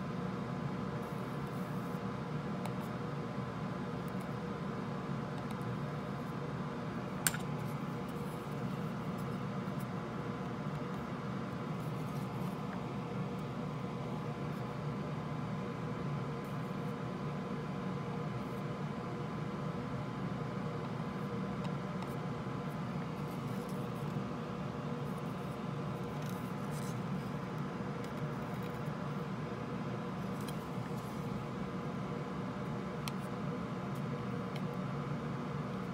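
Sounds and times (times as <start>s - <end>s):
mechanical hum and hiss: 0.0s - 35.9s.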